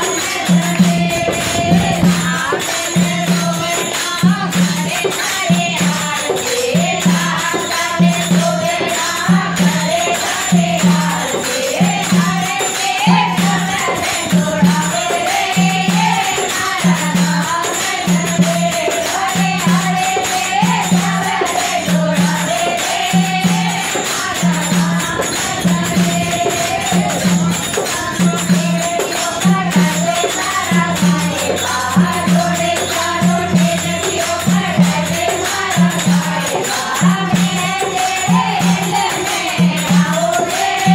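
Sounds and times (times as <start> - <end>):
low steady drum beat: 0.0 - 4.9, 9.2 - 40.3
women singing together: 0.0 - 40.9.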